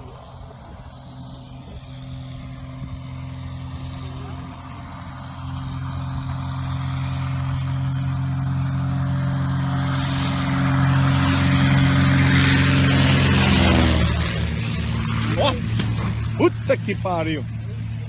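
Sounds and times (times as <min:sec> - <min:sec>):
small plane engine passing: 0:00.0 - 0:18.0.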